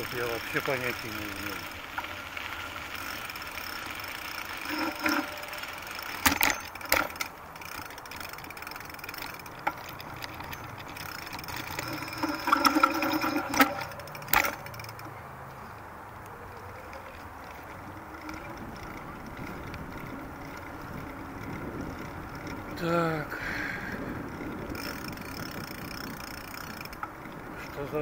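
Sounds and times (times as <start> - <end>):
bicycle knocks and clatters: 0.0 - 15.2, 16.9 - 22.9, 23.9 - 28.0
bicycle rolling with frame rattling: 0.0 - 28.0.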